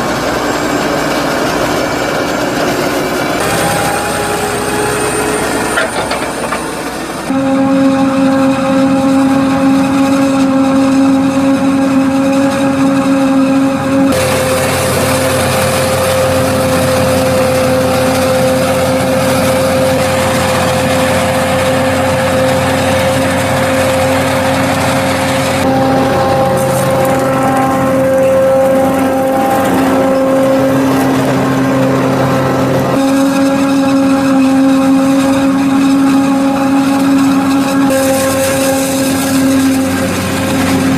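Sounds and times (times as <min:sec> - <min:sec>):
forage harvester chopping with whine: 0:00.0 - 0:40.9
tractor pushing silage: 0:00.0 - 0:40.9.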